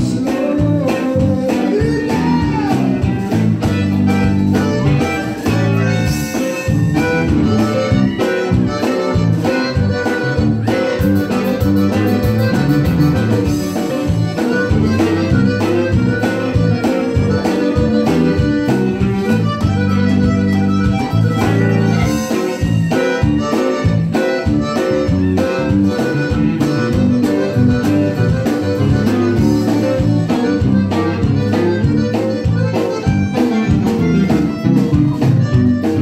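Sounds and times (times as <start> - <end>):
button accordion: 0.0 - 36.0
drum kit beat: 0.0 - 36.0
electric bass: 0.0 - 36.0
electric guitar: 0.0 - 36.0.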